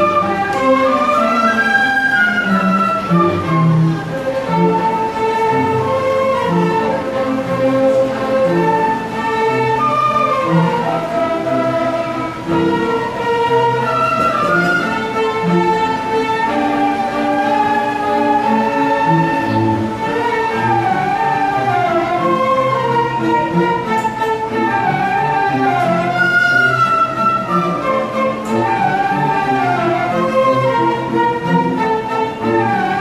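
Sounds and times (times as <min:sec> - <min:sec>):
flute ensemble playing: 0:00.0 - 0:33.0.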